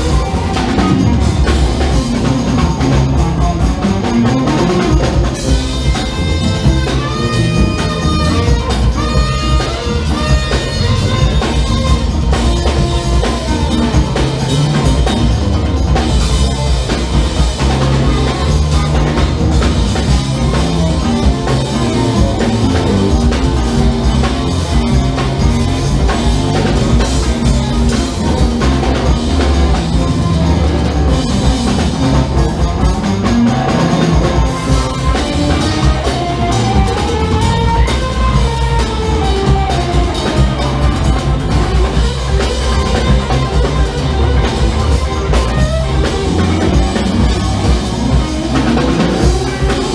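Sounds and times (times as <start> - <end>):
bass guitar groove: 0.0 - 49.9
drum kit: 0.0 - 49.9
electric guitar: 0.0 - 49.9.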